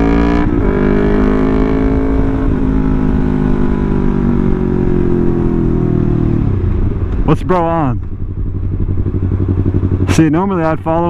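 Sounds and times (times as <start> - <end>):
motorcycle engine slowing: 0.0 - 11.0.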